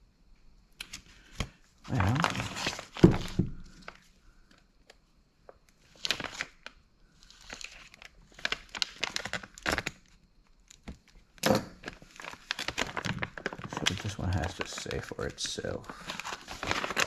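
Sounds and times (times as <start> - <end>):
plastic packaging crinkling: 0.8 - 4.1, 5.7 - 17.0.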